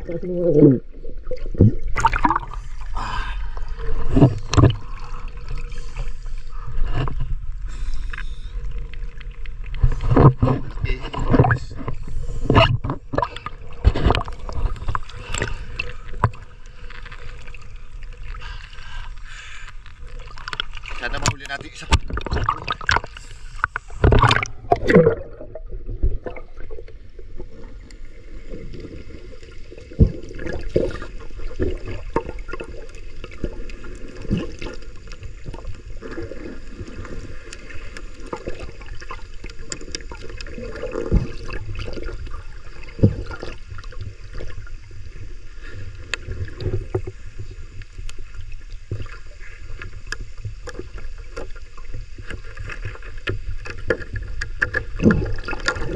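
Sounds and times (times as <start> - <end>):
muffled underwater wash: 0.0 - 55.9
water splashing: 0.0 - 55.9.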